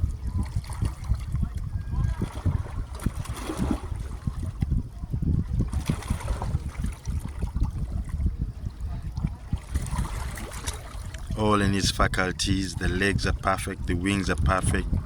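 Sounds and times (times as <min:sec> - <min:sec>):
lake waves lapping: 0:00.0 - 0:15.0.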